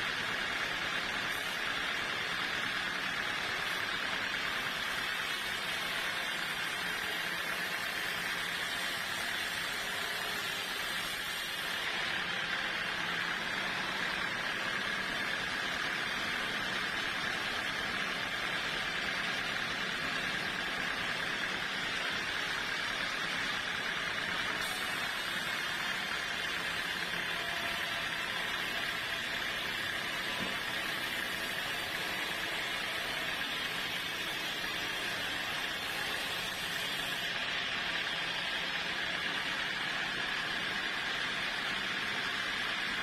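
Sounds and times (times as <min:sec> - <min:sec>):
sawmill saw running: 0:00.0 - 0:43.0.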